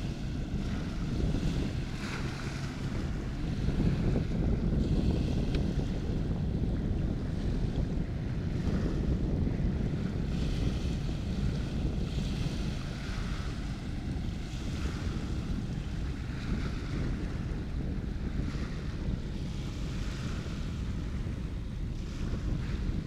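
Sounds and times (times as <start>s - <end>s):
waves washing: 0.0s - 23.0s
wind buffeting microphone: 0.0s - 23.0s.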